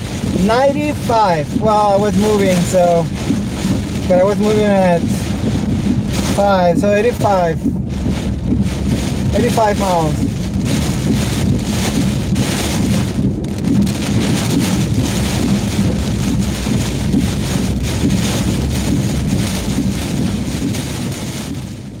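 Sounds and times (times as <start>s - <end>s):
heavy rain lashing a car: 0.0s - 22.0s
wind rumbling on microphone: 0.0s - 22.0s.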